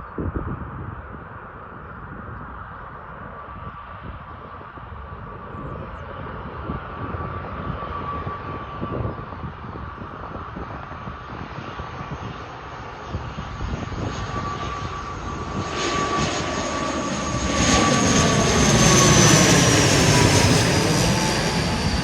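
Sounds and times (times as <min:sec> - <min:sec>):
airliner engines whining: 0:01.6 - 0:22.0.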